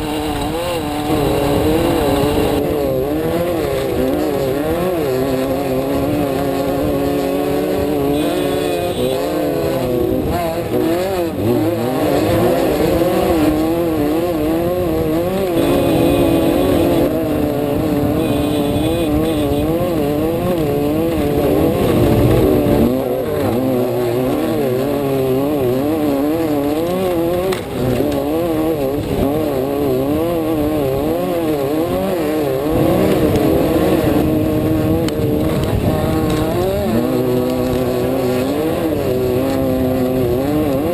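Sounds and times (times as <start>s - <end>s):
race vehicle engine revving: 0.0s - 40.9s.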